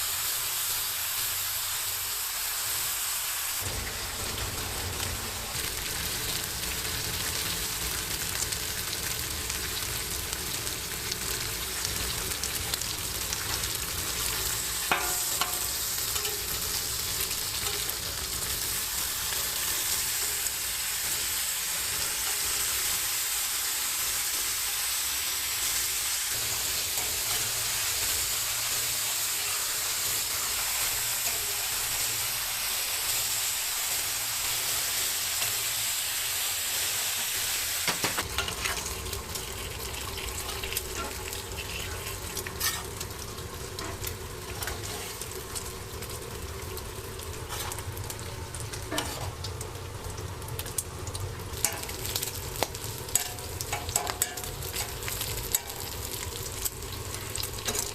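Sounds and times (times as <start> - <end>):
food sizzling: 0.0 - 57.9.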